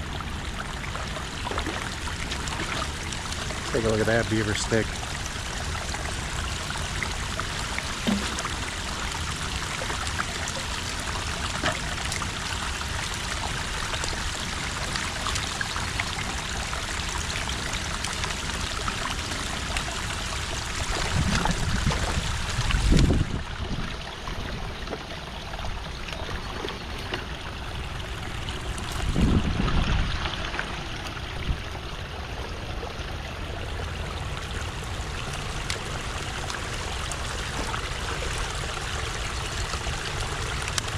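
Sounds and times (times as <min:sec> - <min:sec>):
water running and trickling: 0:00.0 - 0:40.9.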